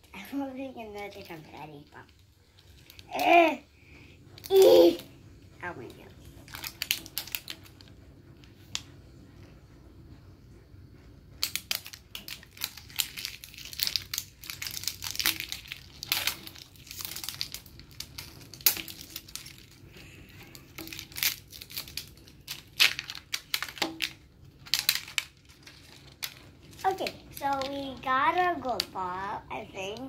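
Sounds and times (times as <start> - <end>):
plastic wrapper crinkling and tearing: 0.2 - 3.6, 4.3 - 5.0, 6.2 - 7.9, 11.4 - 30.0.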